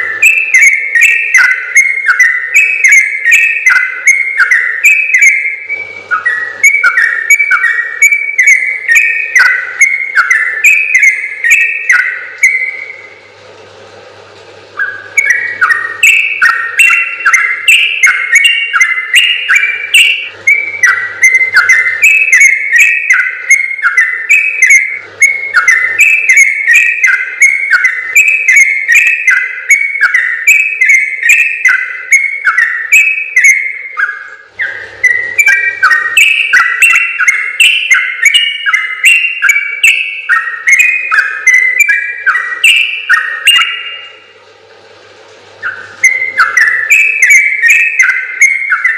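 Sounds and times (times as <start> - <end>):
bird singing bubbly whistled notes: 0.0 - 13.2, 14.7 - 44.4, 45.6 - 48.9.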